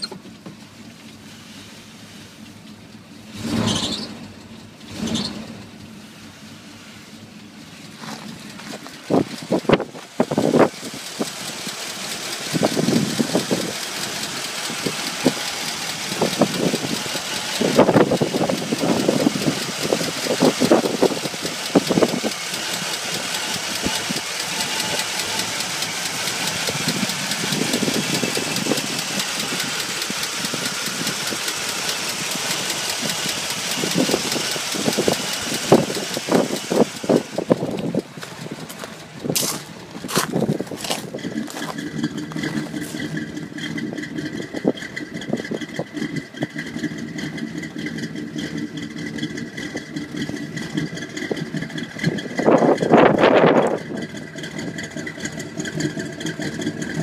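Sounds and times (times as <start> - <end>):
pickup engine running: 0.0 - 57.0.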